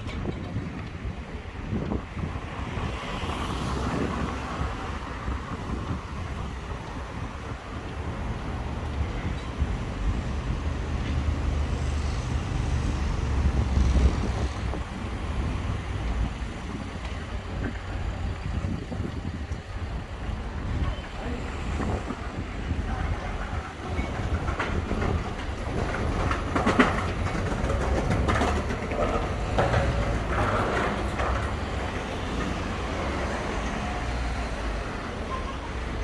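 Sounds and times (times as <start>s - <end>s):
vehicles passing: 0.0s - 36.0s
wind buffeting microphone: 0.0s - 36.0s.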